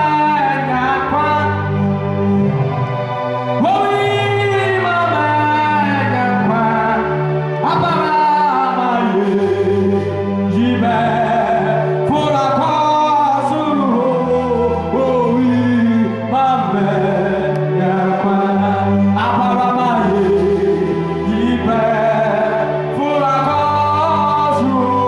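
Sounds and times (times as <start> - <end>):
man singing into a microphone: 0.0 - 1.9, 3.6 - 25.0
sustained accompaniment chords: 0.0 - 25.0.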